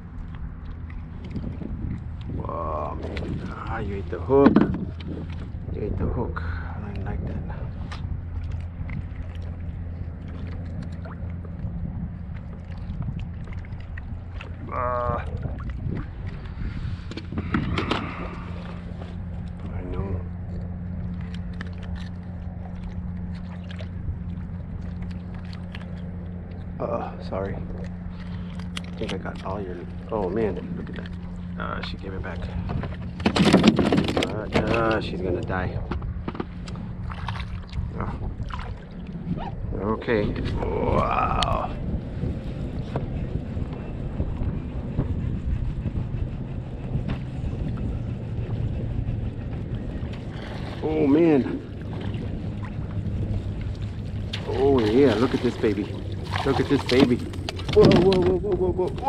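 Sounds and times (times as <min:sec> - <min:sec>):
steady low hum: 0:00.0 - 0:59.0
water slapping against hull: 0:00.0 - 0:59.0
wind buffeting microphone: 0:00.0 - 0:59.0.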